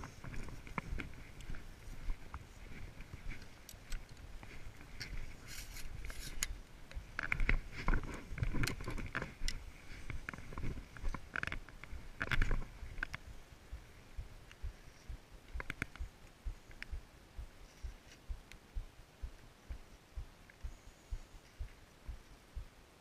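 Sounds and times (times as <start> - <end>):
wind rumble on microphone: 0.0 - 22.8.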